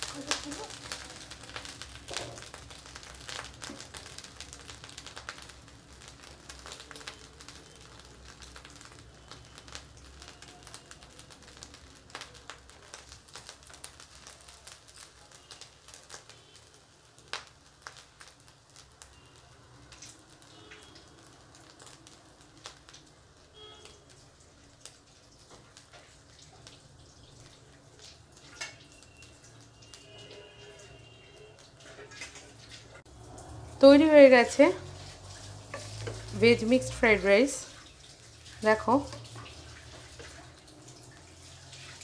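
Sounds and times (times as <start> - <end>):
grains popping in oil: 0.0 - 42.0
rice sizzling in a wok: 0.0 - 42.0.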